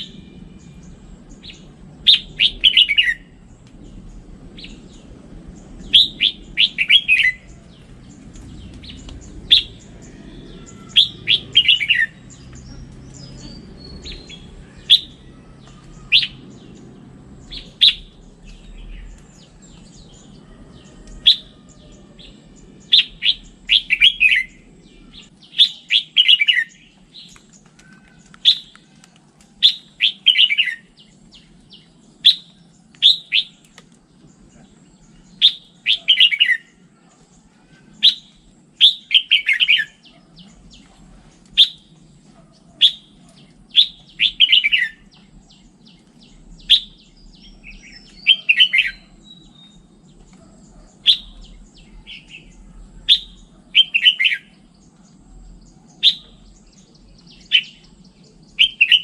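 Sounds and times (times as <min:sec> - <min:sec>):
bird chirping and warbling: 0:00.0 - 0:59.0.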